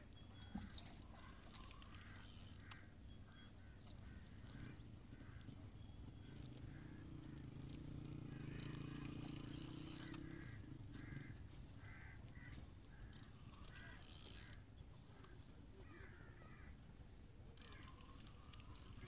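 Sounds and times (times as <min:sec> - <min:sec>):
faint bird calling: 0:00.0 - 0:16.8, 0:17.5 - 0:19.0.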